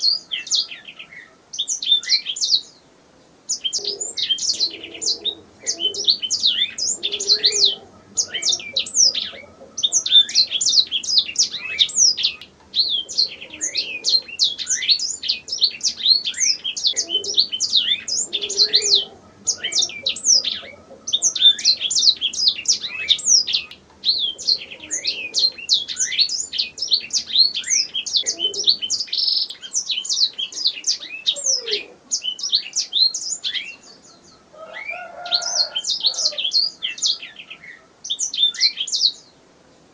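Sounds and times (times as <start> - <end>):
canary singing chirps and trills: 0.0 - 2.8, 3.5 - 39.4.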